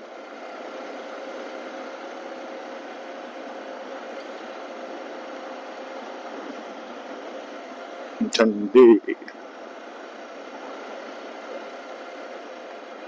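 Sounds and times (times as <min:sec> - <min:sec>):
muffled motorcycle engine hum: 0:00.0 - 0:13.0.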